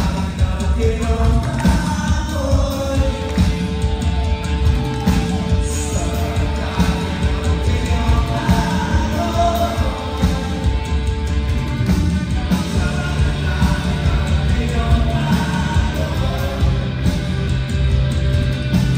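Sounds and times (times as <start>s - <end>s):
bass guitar: 0.0s - 18.9s
drums: 0.0s - 18.9s
electric guitar: 0.0s - 18.9s.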